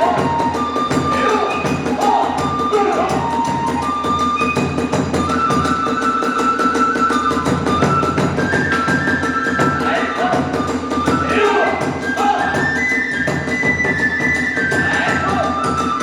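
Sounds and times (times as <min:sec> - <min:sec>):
bamboo flute long notes: 0:00.0 - 0:16.0
fast drumming: 0:00.0 - 0:16.0.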